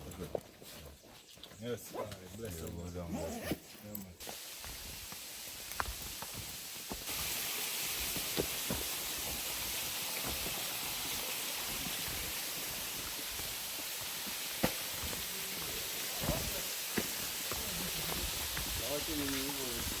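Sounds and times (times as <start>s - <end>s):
running water hissing: 2.8s - 20.0s.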